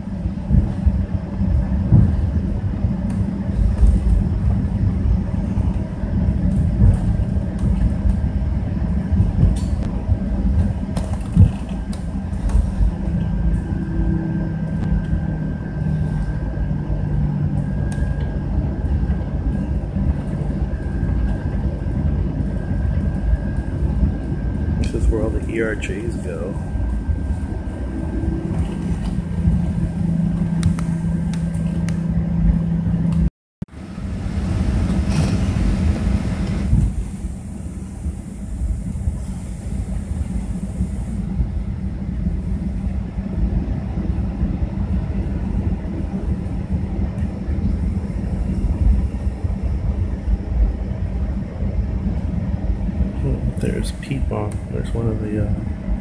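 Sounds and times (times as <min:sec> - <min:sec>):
aircraft cabin rumble: 0:00.0 - 0:56.0
engine hum: 0:00.0 - 0:56.0.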